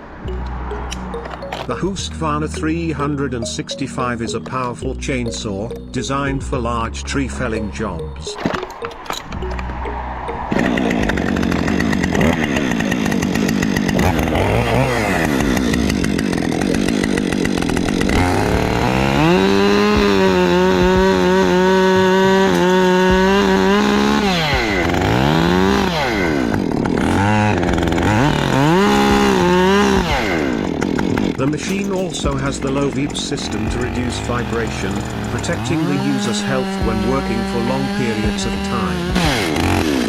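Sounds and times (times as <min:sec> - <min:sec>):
chainsaw cutting wood: 0:00.3 - 0:01.9, 0:07.5 - 0:40.0.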